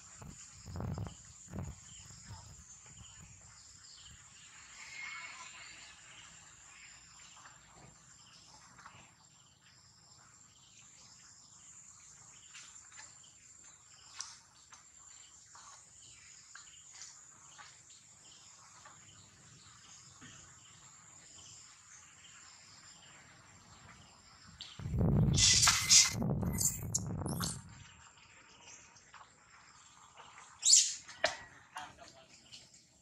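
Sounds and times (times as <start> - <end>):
faint chirps: 0.0 - 32.8.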